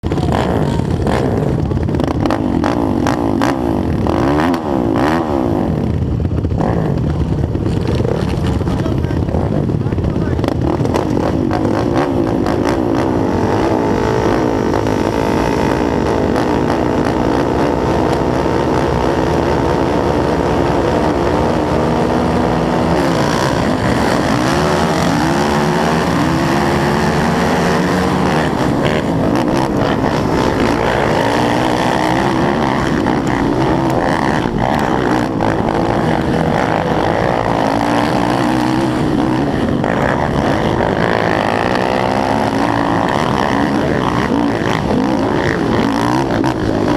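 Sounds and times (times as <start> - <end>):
racing quad engines revving: 0.0 - 46.9.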